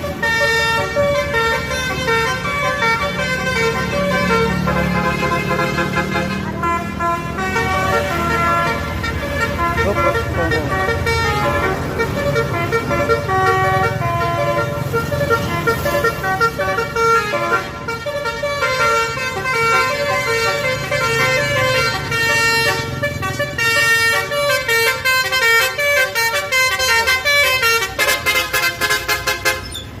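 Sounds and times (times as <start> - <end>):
bus engine rumble: 0.0 - 30.0
musical air horn melody: 0.0 - 30.0.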